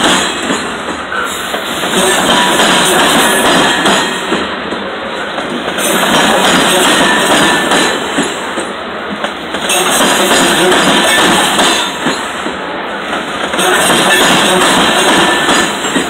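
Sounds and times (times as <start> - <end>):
clicks and clanks from train cars: 0.0 - 16.0
train wheels running on rails: 0.0 - 16.0.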